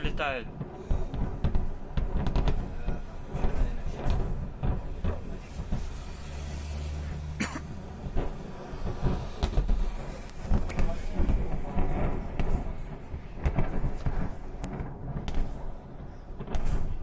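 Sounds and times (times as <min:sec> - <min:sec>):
distant explosions booming: 0:00.0 - 0:17.0
sharp crack: 0:00.0 - 0:17.0.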